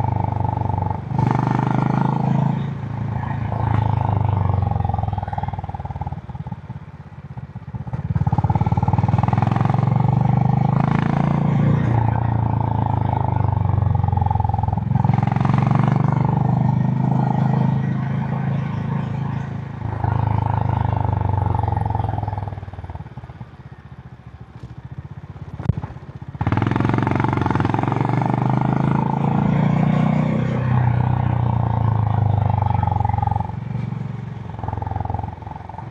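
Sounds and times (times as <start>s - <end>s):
motorcycle engine under throttle: 0.0s - 35.9s.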